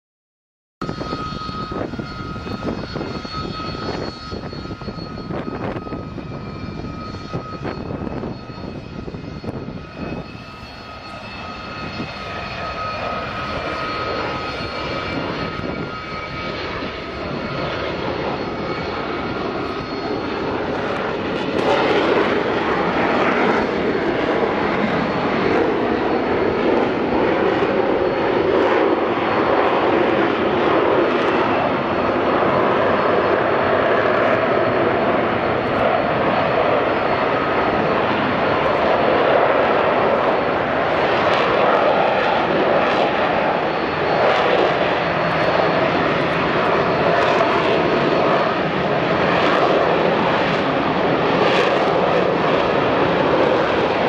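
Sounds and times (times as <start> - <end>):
jet engine rushing and whining: 0.8 - 54.0.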